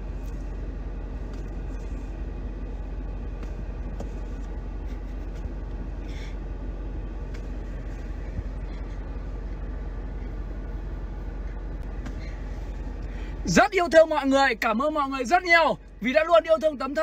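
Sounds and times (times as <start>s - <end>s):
car cabin engine and road rumble: 0.0s - 17.0s.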